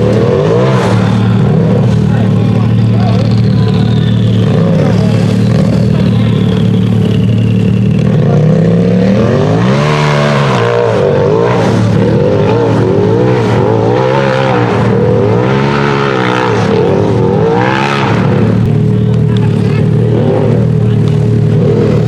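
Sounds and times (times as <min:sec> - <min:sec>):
race engine revving hard: 0:00.0 - 0:22.0.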